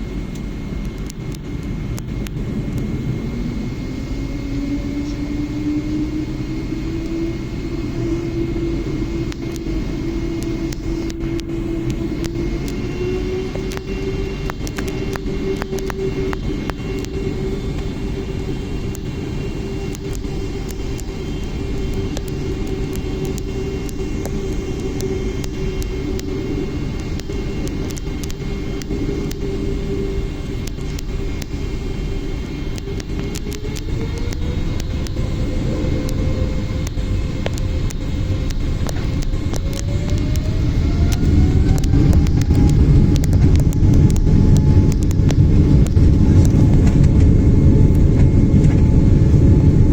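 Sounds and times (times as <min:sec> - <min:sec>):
jet engines at high thrust: 0:00.0 - 0:49.9
sharp crackles: 0:00.1 - 0:05.2, 0:05.9 - 0:49.9.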